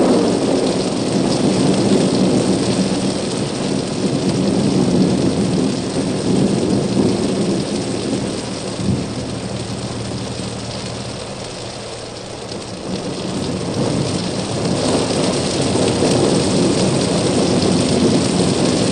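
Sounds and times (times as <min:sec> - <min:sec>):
heavy rain: 0:00.0 - 0:18.9
rumbling thunder: 0:00.0 - 0:18.9.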